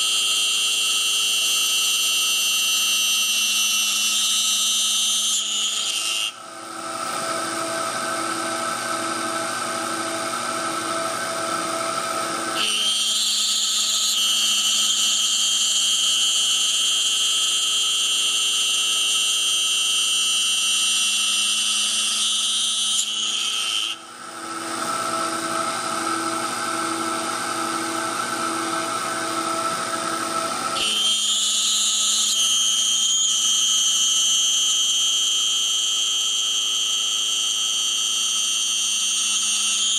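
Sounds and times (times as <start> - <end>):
cnc spindle whine: 0.0 - 39.9.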